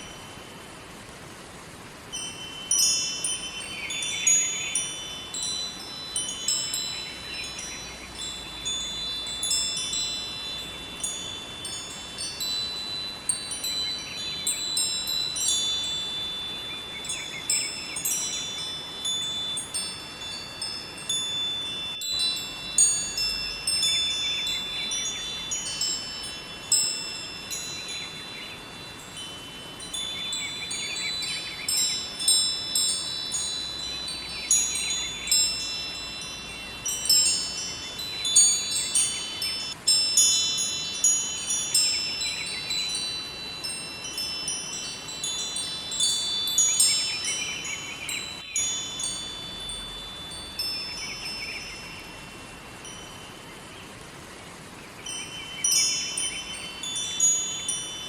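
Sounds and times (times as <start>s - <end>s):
wind chimes ringing: 0.0s - 1.0s, 2.0s - 58.0s
river rushing: 0.0s - 58.0s.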